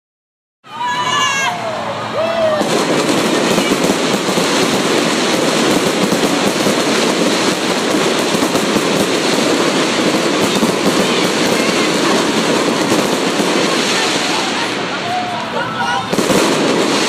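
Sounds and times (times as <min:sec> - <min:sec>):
fireworks crackling: 0:00.8 - 0:17.0.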